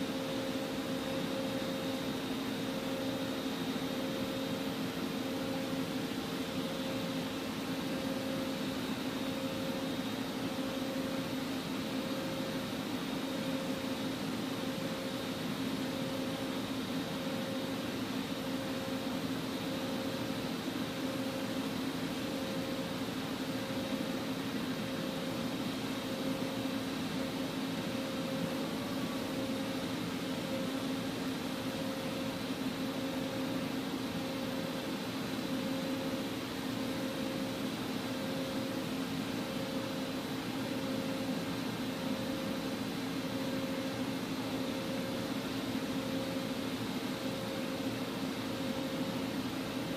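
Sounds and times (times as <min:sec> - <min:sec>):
lathe mechanical hum with whine: 0:00.0 - 0:49.9.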